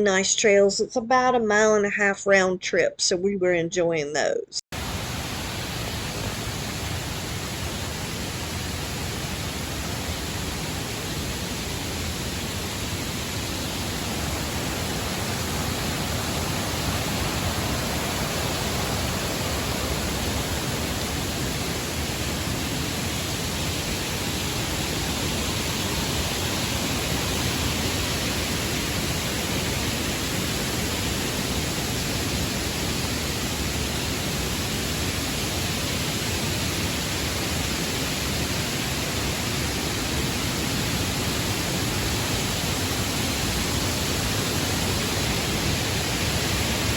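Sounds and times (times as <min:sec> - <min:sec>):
waterfall roaring: 0:04.8 - 0:46.9.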